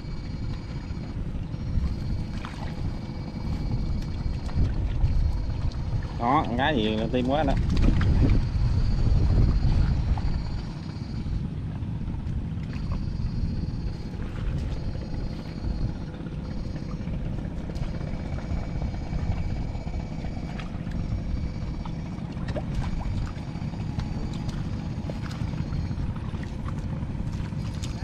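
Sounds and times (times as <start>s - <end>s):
low rumble: 0.0s - 28.0s
machine high whine: 0.0s - 28.0s.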